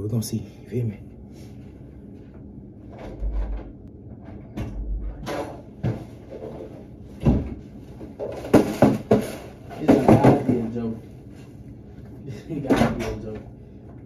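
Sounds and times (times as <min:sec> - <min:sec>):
knocks and clunks in a room: 0:01.8 - 0:11.0, 0:11.8 - 0:14.0.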